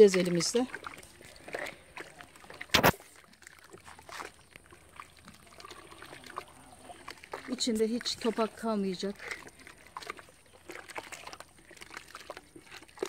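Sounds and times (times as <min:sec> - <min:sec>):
cement slurry sloshing and squelching: 0:00.0 - 0:13.0.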